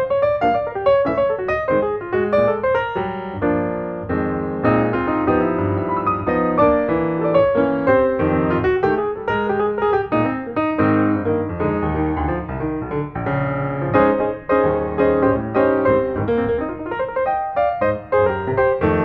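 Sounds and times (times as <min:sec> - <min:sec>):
piano instrumental music: 0:00.0 - 0:19.0.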